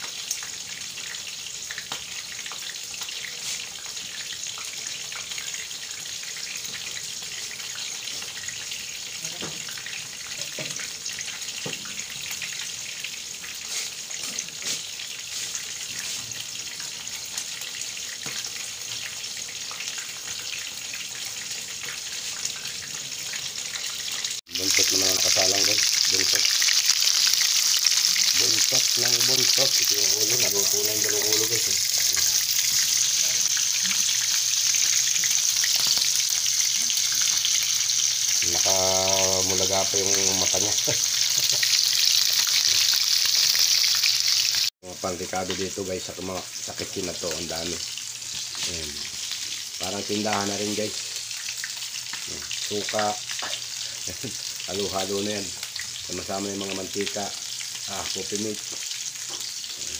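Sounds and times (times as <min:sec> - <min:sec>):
fish frying in hot oil: 0:00.0 - 0:59.9.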